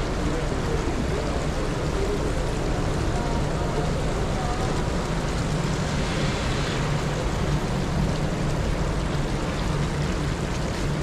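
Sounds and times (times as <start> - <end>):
constant low hum: 0.0 - 11.0
rushing city ambience: 0.0 - 11.0.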